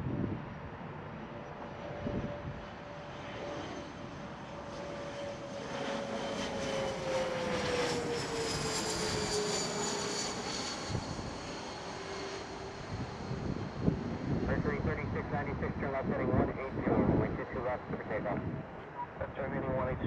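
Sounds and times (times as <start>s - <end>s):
jet passing overhead: 0.0s - 20.0s.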